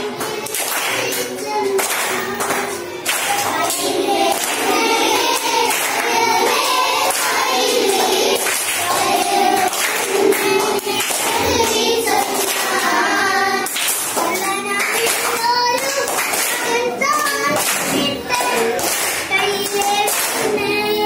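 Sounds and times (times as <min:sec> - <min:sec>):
children clapping in time: 0:00.0 - 0:21.0
children singing together: 0:00.0 - 0:21.0.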